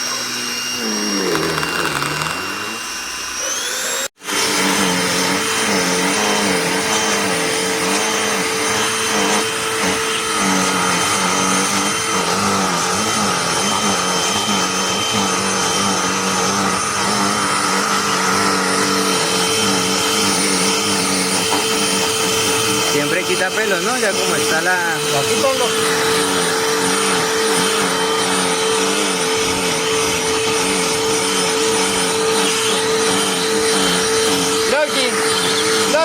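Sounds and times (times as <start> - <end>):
handheld vacuum running: 0.0 - 36.0.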